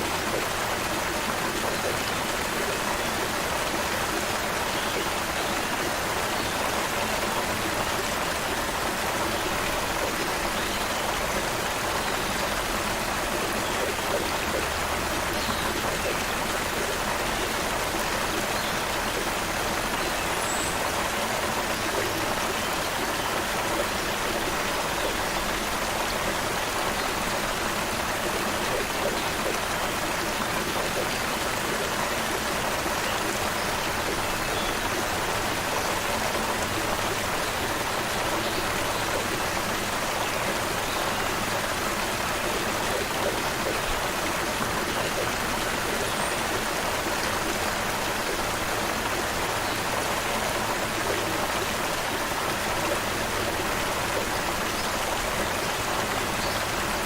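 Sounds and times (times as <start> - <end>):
creek water babbling over stones: 0.0 - 57.0.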